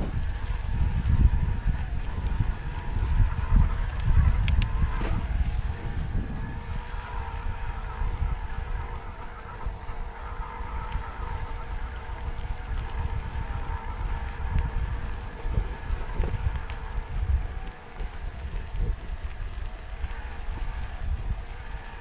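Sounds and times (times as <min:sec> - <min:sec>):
bike drivetrain whine: 0:00.0 - 0:22.0
wind buffeting microphone: 0:00.0 - 0:22.0.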